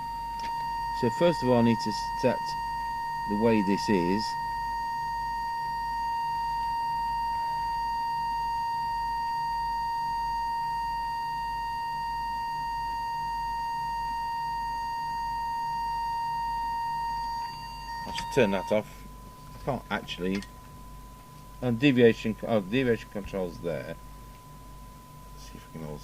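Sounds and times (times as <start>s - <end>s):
faint mains hum: 0.0s - 26.0s
steady test tone: 0.0s - 26.0s.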